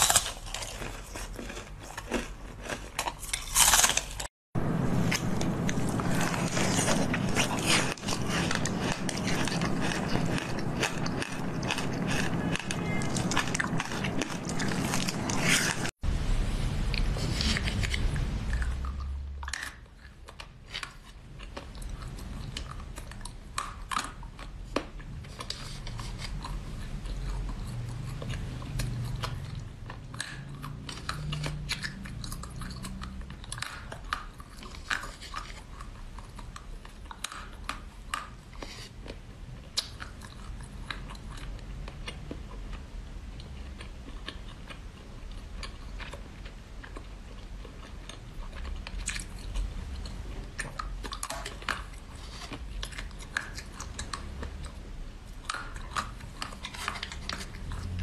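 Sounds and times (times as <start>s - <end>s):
crunchy chewing of frozen jelly: 0.0s - 4.3s, 4.9s - 16.0s, 16.9s - 58.0s.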